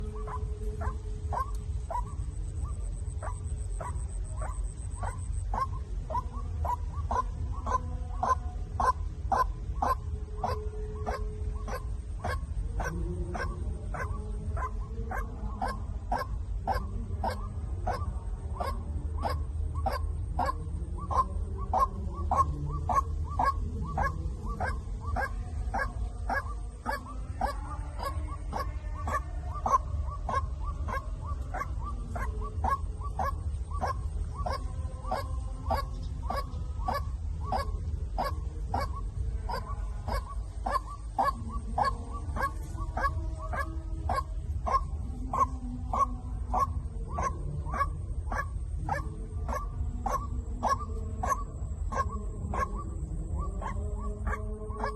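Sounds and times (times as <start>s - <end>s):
steady low hum: 0.0s - 54.9s
waterhen calling: 0.0s - 54.9s.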